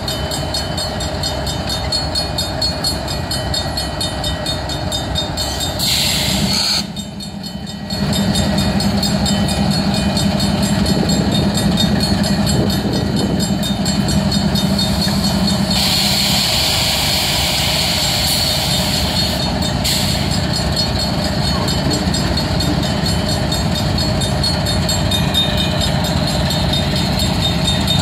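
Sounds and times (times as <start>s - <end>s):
crossing bell ringing: 0.0s - 28.0s
diesel locomotive idling: 0.0s - 28.0s.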